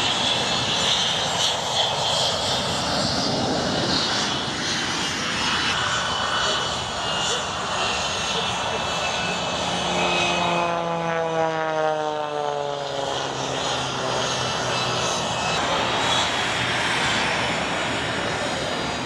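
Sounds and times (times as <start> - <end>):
propeller airplane flying past: 0.0 - 19.0.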